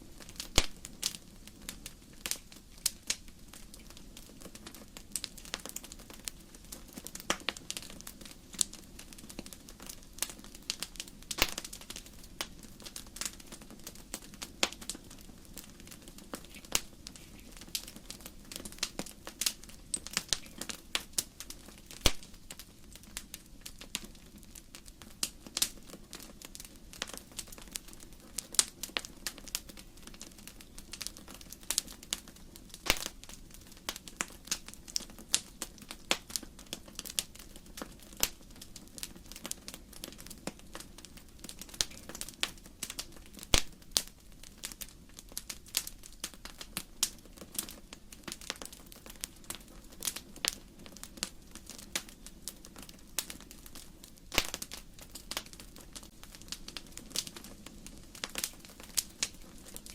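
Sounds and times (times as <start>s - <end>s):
logs crackling in a fireplace: 0.0s - 59.9s.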